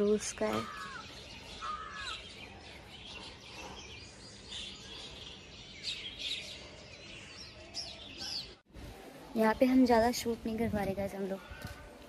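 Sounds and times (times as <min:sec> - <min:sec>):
outdoor background noise: 0:00.0 - 0:12.0
small birds chirping and twittering: 0:00.0 - 0:12.0.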